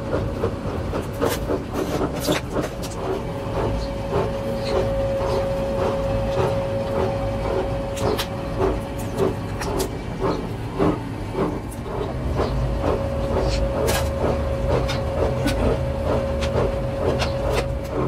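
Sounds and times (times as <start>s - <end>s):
rubber mill mechanical beat: 0.0s - 18.0s.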